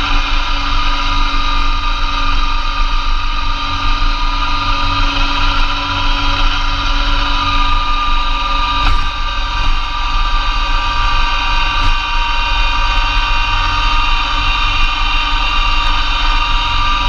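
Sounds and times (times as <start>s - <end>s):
snowblower whine: 0.0s - 17.0s
tractor diesel engine running: 0.0s - 17.0s.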